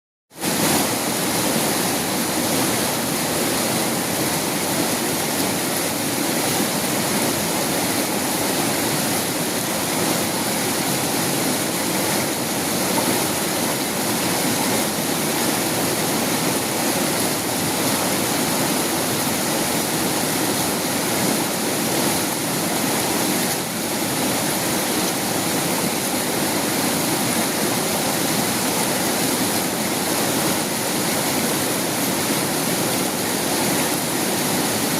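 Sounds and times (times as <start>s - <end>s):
river water rushing: 0.4s - 34.9s.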